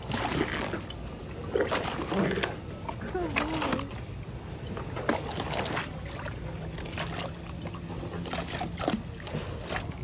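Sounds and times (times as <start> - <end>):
moving water: 0.0 - 10.0
water splashing: 0.0 - 10.0.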